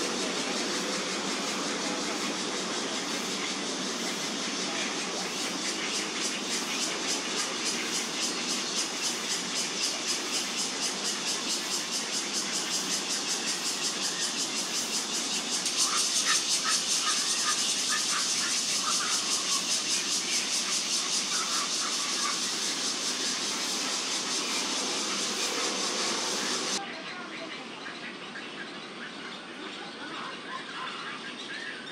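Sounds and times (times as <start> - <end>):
high pulsing buzz: 0.0 - 26.8.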